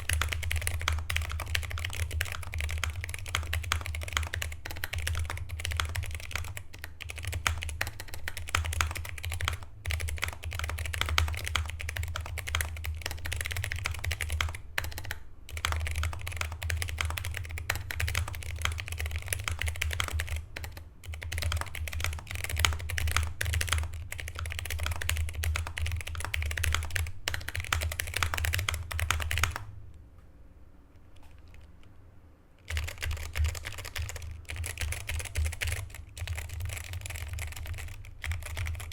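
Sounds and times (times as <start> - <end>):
mechanical keyboard typing: 0.0 - 29.7, 31.2 - 31.9, 32.6 - 38.9.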